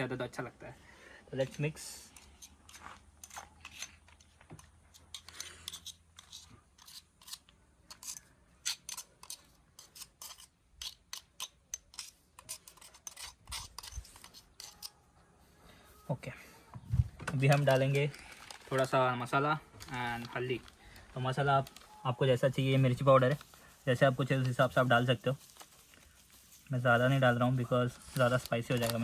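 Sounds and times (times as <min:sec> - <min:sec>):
scraping and rubbing in a vessel: 0:01.5 - 0:15.0, 0:16.8 - 0:29.0.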